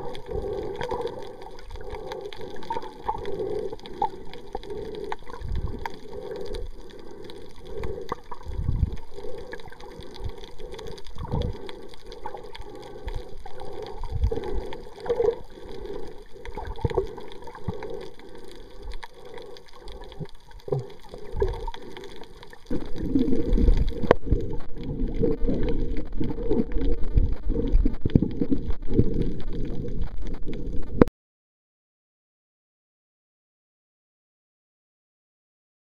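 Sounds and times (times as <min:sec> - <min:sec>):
underwater sloshing and gurgling: 0:00.0 - 0:31.1.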